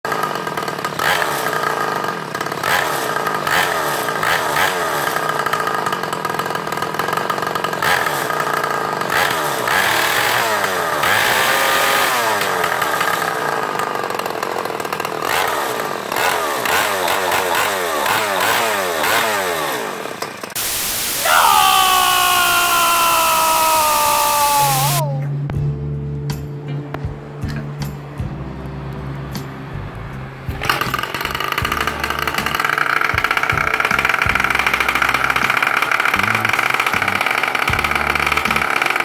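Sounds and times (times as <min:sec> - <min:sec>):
single-cylinder engine revving: 0:00.0 - 0:20.6, 0:23.2 - 0:39.0.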